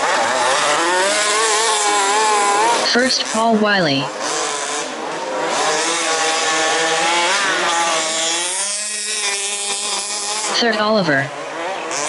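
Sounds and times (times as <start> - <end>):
rc car engines buzzing: 0.0 - 12.0.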